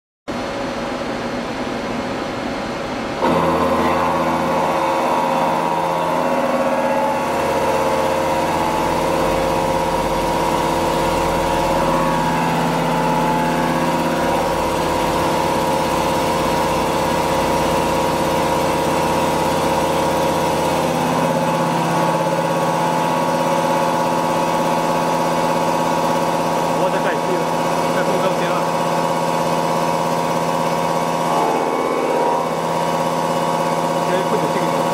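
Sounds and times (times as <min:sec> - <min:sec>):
machining spindle whine and hum: 0:00.3 - 0:34.9.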